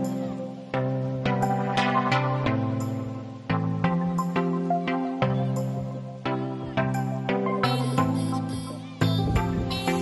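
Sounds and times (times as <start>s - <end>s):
gentle melody of struck notes: 0.0s - 10.0s.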